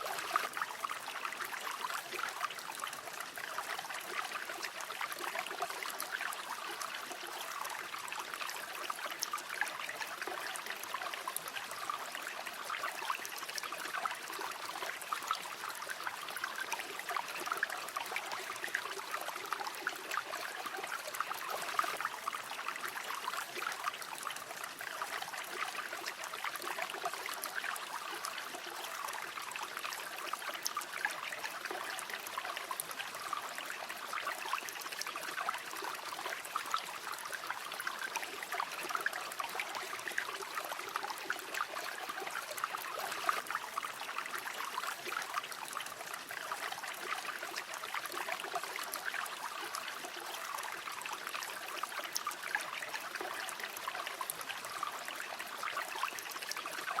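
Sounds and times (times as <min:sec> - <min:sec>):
river water burbling over stones: 0:00.0 - 0:57.0.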